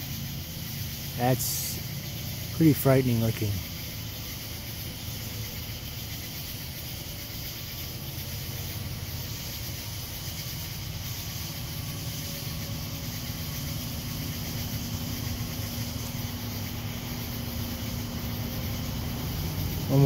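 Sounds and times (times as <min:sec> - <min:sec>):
cicadas buzzing: 0:00.0 - 0:20.0.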